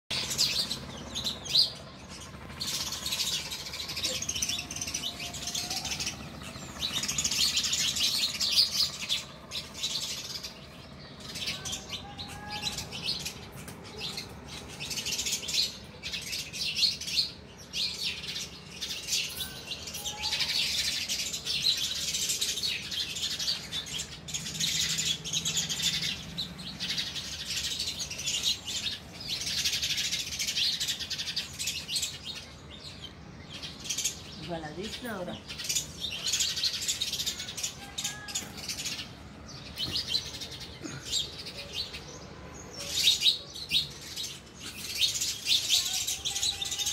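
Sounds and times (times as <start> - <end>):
sparrows chirping: 0.1 - 46.9.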